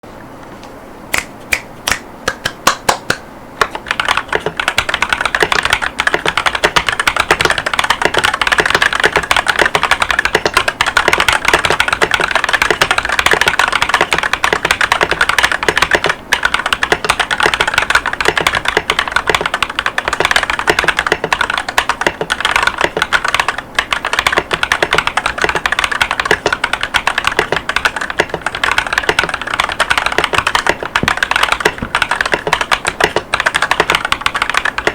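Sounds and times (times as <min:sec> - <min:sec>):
mechanical keyboard typing: 0:03.6 - 0:34.9.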